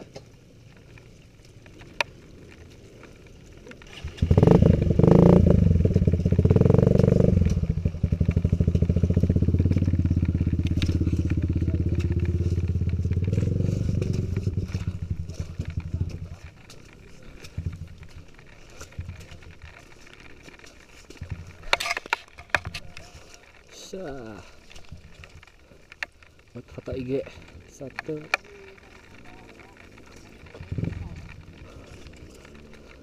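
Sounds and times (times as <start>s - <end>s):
trail motorcycle engine revving: 0.0s - 33.0s.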